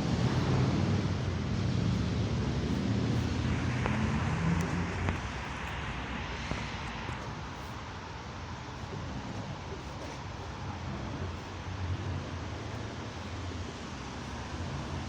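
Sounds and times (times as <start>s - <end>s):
bus engine humming: 0.0s - 15.0s.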